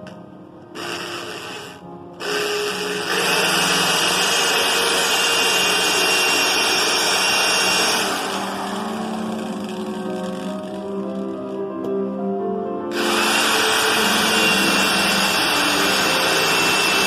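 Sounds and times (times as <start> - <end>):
electric drill whining: 0.7 - 11.4, 12.9 - 17.0.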